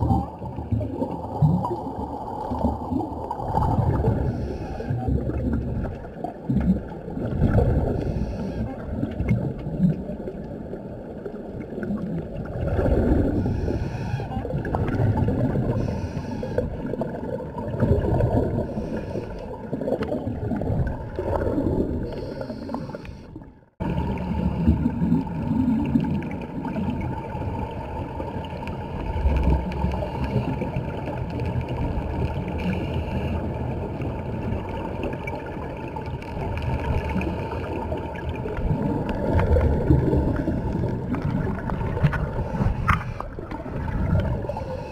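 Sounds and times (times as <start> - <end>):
underwater air bubbling: 0.0 - 44.9.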